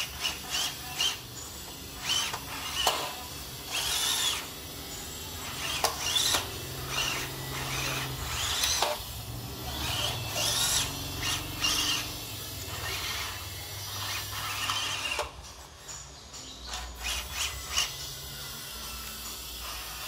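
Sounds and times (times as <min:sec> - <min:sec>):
toy truck electric motor whining: 0:00.0 - 0:20.0.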